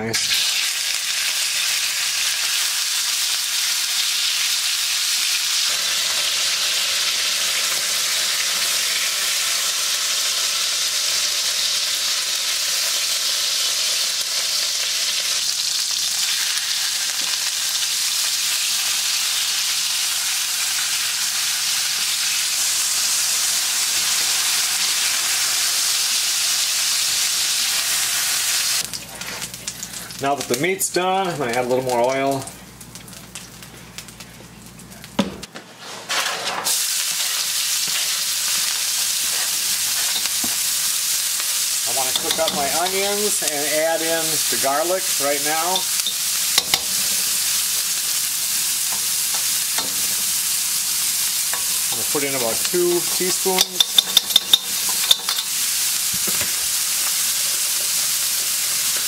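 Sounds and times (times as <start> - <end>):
meat sizzling in hot oil: 0.0 - 34.6, 35.7 - 59.0.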